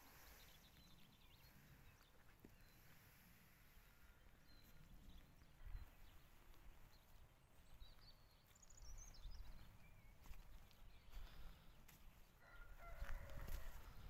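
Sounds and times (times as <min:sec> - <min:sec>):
faint low wind rumble: 0:00.0 - 0:11.8.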